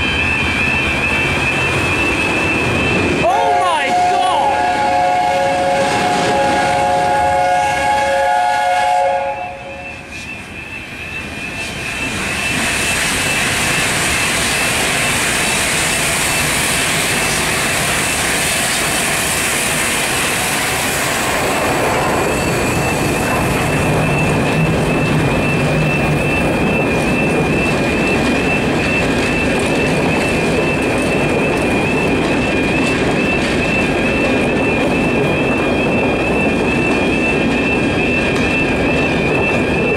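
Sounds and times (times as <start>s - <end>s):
steam locomotive chime whistle: 0.0s - 19.0s, 19.7s - 39.9s
train rumble and clatter: 0.0s - 39.9s.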